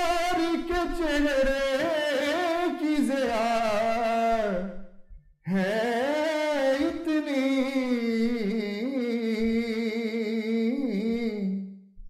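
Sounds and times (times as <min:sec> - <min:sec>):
person singing unaccompanied: 0:00.0 - 0:04.8, 0:05.5 - 0:11.8.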